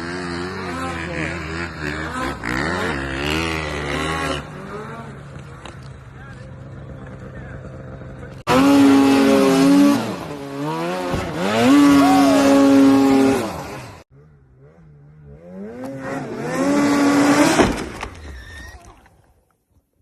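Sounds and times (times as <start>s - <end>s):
quieter engine climbing in pitch: 0.0s - 17.8s
snowmobile engine revving: 0.0s - 18.0s.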